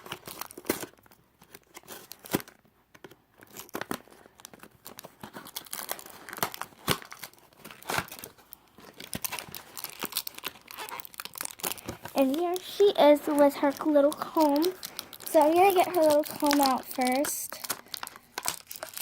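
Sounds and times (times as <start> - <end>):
packaging crinkling and tearing: 0.0 - 19.0.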